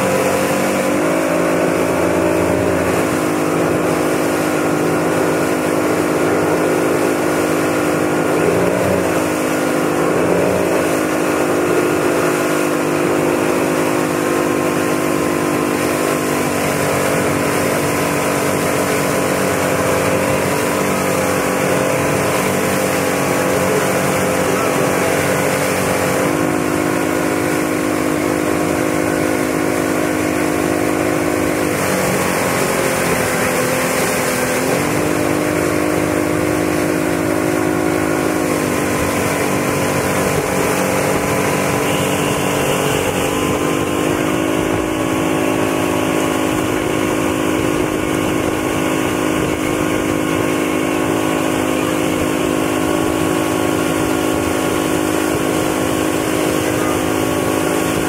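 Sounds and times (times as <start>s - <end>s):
churning water rushing: 0.0s - 58.0s
motorboat engine running: 0.0s - 58.0s.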